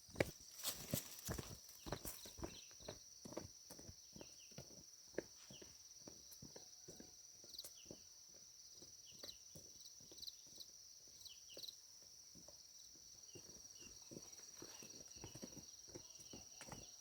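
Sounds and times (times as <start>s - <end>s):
footsteps on dirt path: 0.0s - 17.0s.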